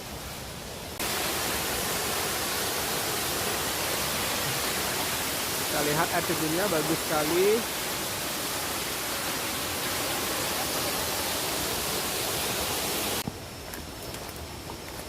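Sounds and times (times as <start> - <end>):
waterfall rushing: 0.0 - 13.2.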